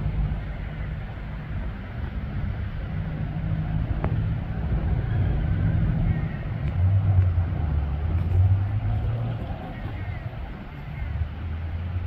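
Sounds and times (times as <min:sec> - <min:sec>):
low droning tones: 0:00.0 - 0:12.0
low engine rumble: 0:00.0 - 0:12.0
outdoor noise: 0:00.0 - 0:12.0.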